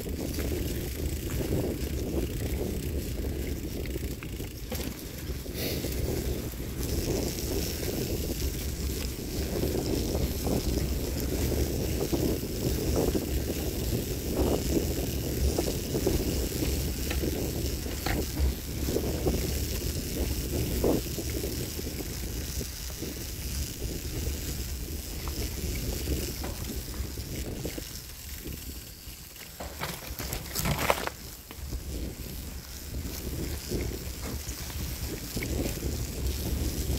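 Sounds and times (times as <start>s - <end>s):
bicycle rattles and knocks: 0.0s - 36.9s
bicycle tyres crackling over leaves: 0.0s - 36.9s
wind rumble on microphone: 0.0s - 36.9s.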